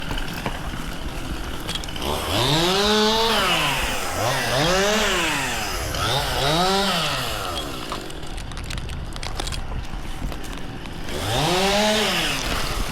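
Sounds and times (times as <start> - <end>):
chainsaw engine revving: 0.0 - 8.4, 10.8 - 12.9.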